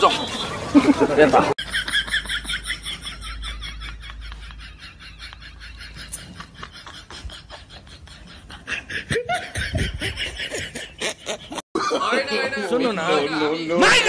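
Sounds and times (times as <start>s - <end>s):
man laughing: 0.0s - 14.0s.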